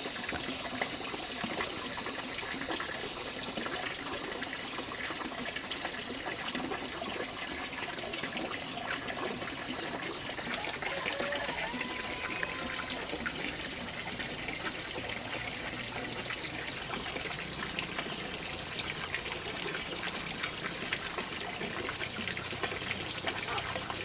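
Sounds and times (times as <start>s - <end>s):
water trickling and pouring: 0.0s - 24.0s.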